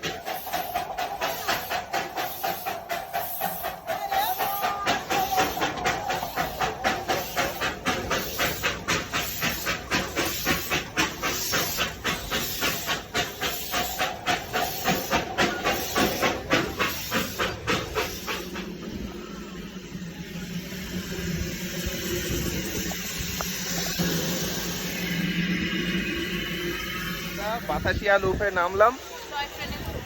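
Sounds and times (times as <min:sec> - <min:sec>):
steam hiss: 0:00.0 - 0:30.0
steam locomotive chuffing: 0:00.0 - 0:30.0.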